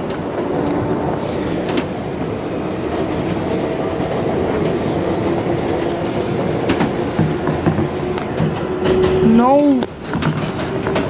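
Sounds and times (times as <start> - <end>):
subway train wheels rumbling: 0.0 - 11.0.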